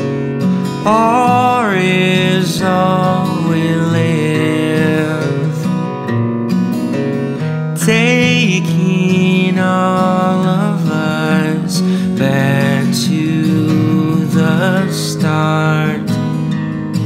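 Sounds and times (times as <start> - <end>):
acoustic guitar strumming: 0.0 - 17.0
man singing: 0.7 - 6.0, 7.6 - 16.4.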